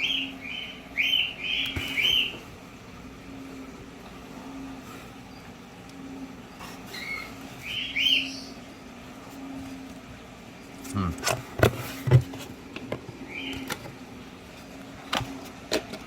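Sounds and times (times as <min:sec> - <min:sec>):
caged birds chirping: 0:00.0 - 0:11.2, 0:13.0 - 0:15.1.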